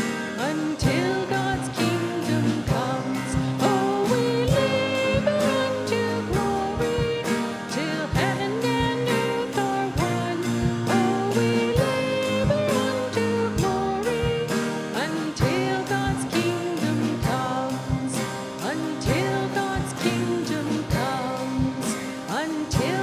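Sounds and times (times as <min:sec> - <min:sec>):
person singing: 0:00.0 - 0:23.0
steady drum beat: 0:00.0 - 0:23.0
worship band playing: 0:00.0 - 0:23.0.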